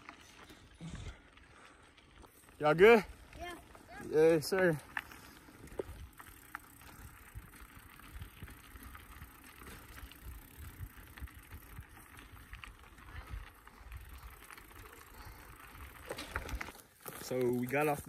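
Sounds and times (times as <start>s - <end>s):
bicycle tyres on dirt trail: 0.0s - 18.0s
bike rattles and bumps: 0.0s - 18.0s.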